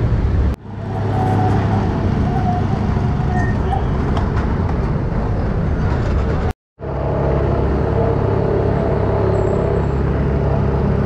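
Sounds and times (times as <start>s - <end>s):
trams rumbling on track: 0.0s - 11.0s.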